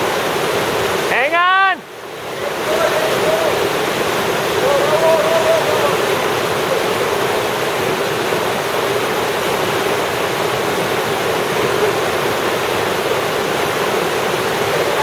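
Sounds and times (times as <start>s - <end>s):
river rapids rushing: 0.0s - 15.0s.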